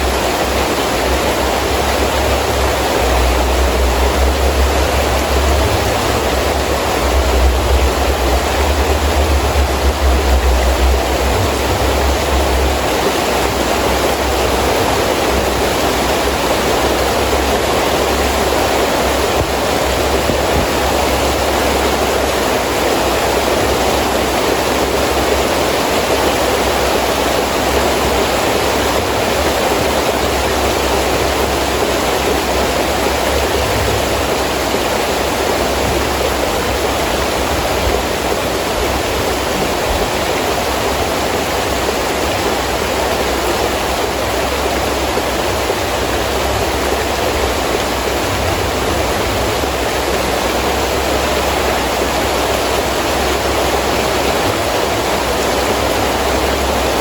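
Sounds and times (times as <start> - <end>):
heavy rain falling: 0.0 - 57.0
wind: 0.0 - 57.0.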